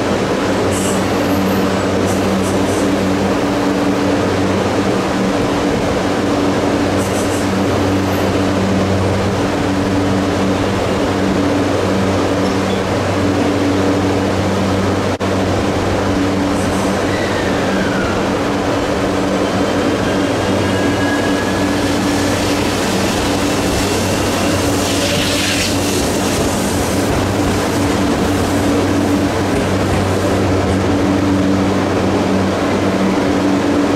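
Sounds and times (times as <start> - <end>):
electric train inverter whining: 0.0 - 33.9.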